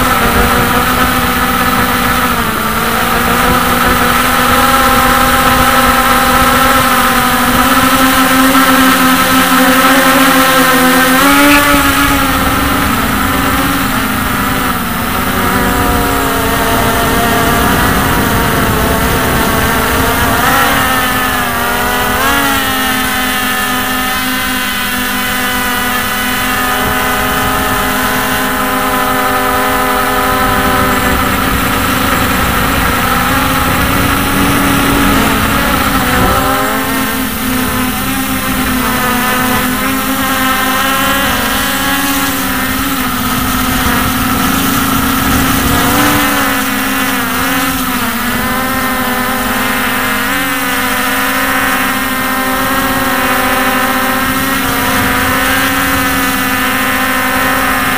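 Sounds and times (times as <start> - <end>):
drone motors whining: 0.0 - 57.9.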